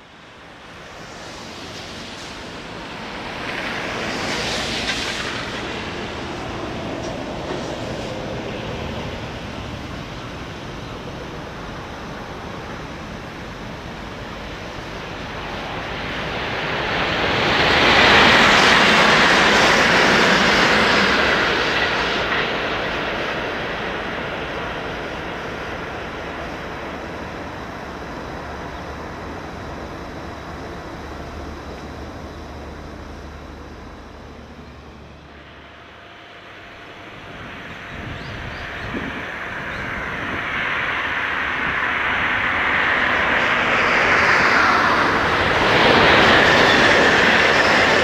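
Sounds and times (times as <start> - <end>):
high-speed train rushing past: 0.0 - 48.0.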